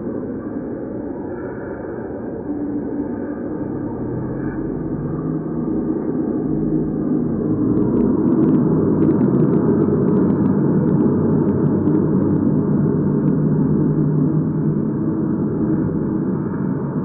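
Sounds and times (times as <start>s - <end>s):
loud low drone: 0.0s - 17.0s.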